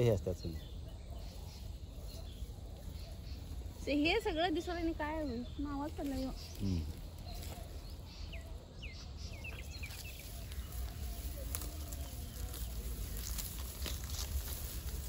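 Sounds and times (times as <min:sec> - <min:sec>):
bird chirping: 0:00.0 - 0:15.0
rustling of dry plants: 0:00.0 - 0:15.0.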